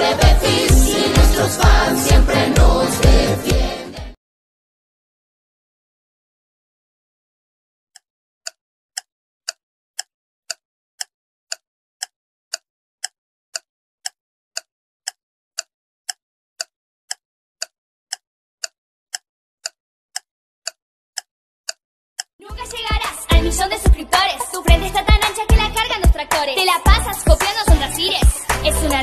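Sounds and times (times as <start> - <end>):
countdown clock ticking: 0.0 - 4.2, 8.5 - 29.0.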